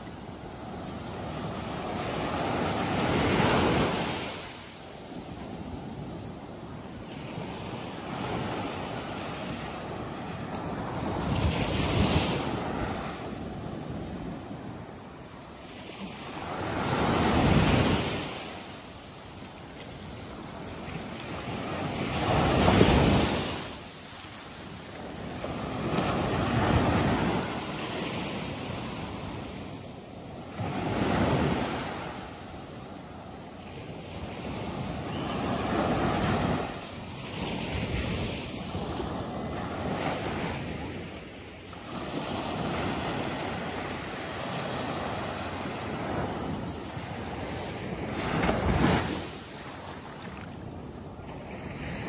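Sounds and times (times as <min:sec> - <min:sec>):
small waves breaking on beach: 0:00.0 - 0:52.0.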